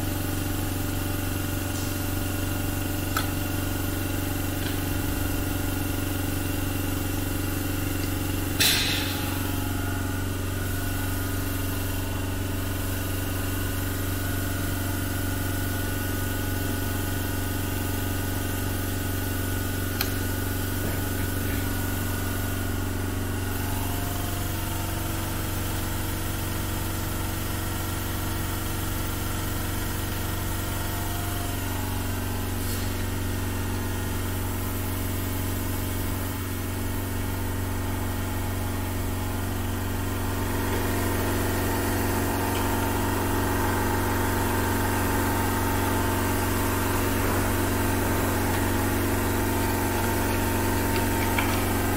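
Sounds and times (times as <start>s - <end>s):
workshop machinery hum: 0.0s - 51.9s.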